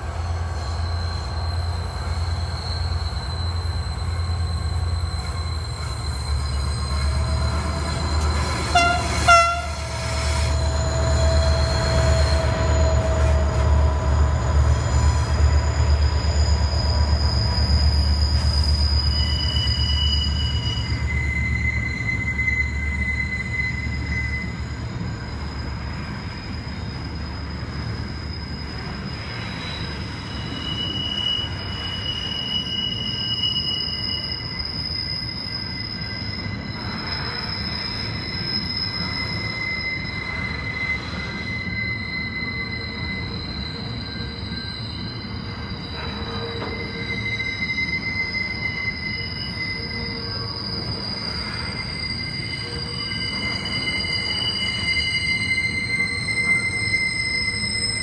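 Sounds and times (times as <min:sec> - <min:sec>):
low rumble of wheels on track: 0:00.0 - 0:58.0
train wheels squealing on rails: 0:00.0 - 0:58.0.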